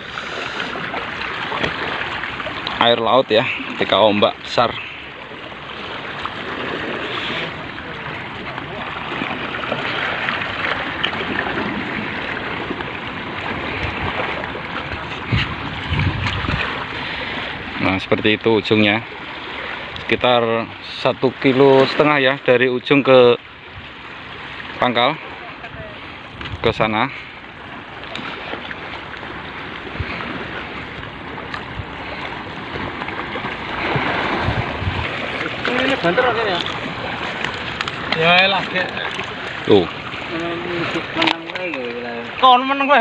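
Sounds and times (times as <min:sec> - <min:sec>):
sea water washing against rocks: 0:00.0 - 0:22.5, 0:23.7 - 0:43.0
wind: 0:00.0 - 0:43.0.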